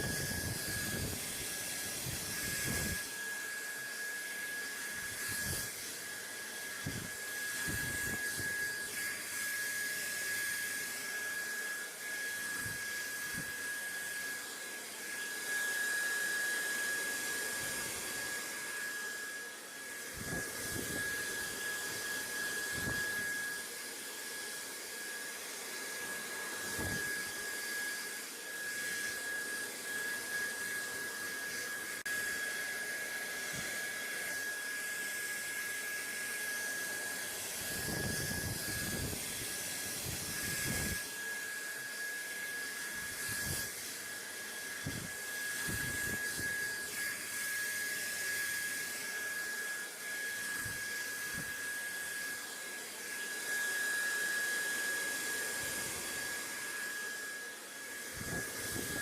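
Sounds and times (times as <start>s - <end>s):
blower motor whine and hiss: 0.0s - 59.0s.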